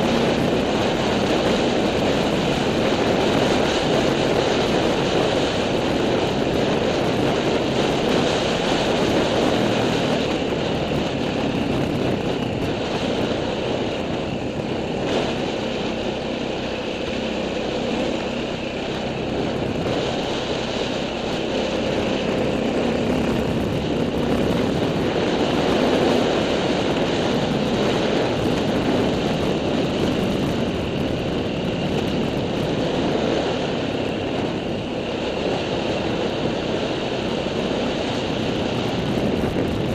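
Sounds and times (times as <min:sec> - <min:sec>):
off-road vehicle engine running: 0:00.0 - 0:39.9
wind noise: 0:00.0 - 0:39.9.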